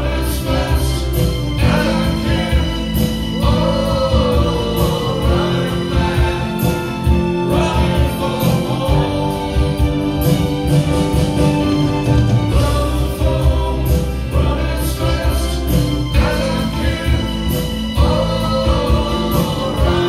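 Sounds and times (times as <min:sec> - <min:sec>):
person singing into a microphone: 0:00.0 - 0:10.2, 0:12.5 - 0:20.0.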